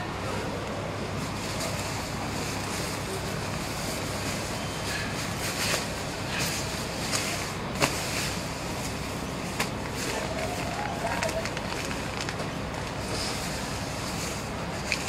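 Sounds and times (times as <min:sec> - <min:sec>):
railway platform background noise: 0:00.0 - 0:15.0.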